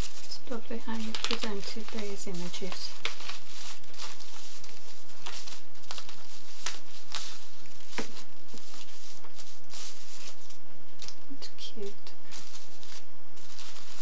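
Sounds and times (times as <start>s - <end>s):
tissue paper rustling: 0.0s - 11.2s, 12.2s - 14.0s.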